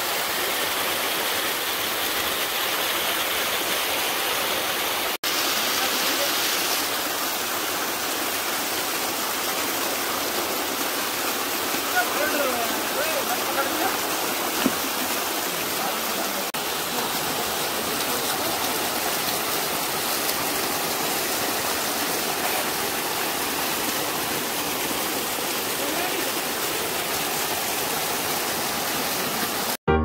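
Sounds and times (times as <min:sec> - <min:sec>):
stream water flowing: 0:00.0 - 0:29.8.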